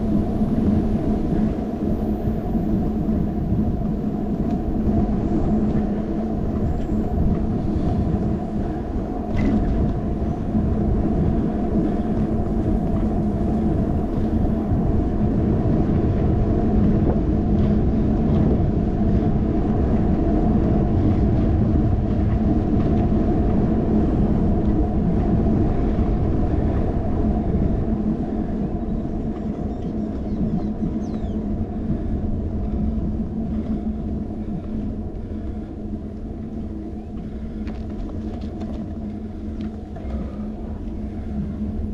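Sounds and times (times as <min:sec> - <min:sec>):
bicycle road rumble: 0:00.0 - 0:41.9
faint steady hum: 0:00.0 - 0:41.9
wind noise: 0:00.0 - 0:41.9.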